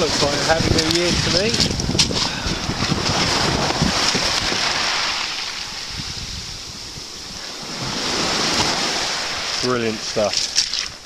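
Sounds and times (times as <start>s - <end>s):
wind buffeting microphone: 0.0s - 9.6s
sea waves washing: 0.0s - 11.0s.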